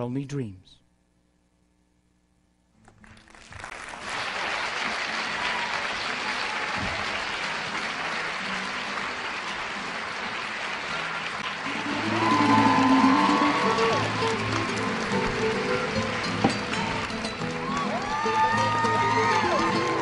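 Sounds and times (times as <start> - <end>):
audience applauding: 2.9 - 20.0.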